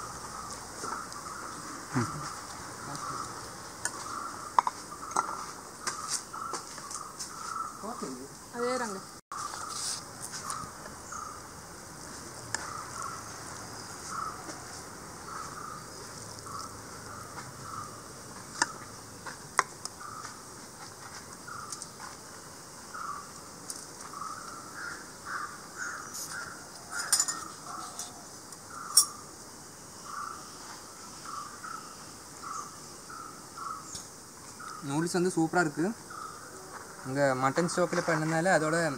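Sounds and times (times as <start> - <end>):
birds calling: 0.0 - 11.5, 12.5 - 22.2, 22.8 - 38.9
high hiss of insects: 0.0 - 38.9.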